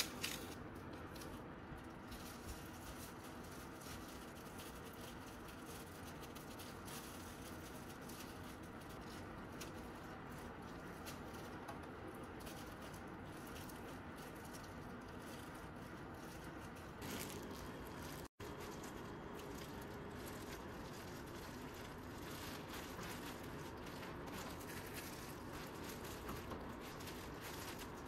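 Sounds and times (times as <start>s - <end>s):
plastic glove rustle: 0.0s - 28.0s.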